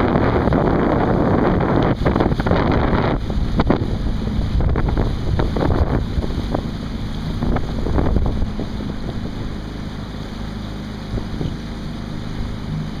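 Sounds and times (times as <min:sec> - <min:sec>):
water splashes: 0:00.0 - 0:13.0
wind buffeting microphone: 0:00.0 - 0:13.0.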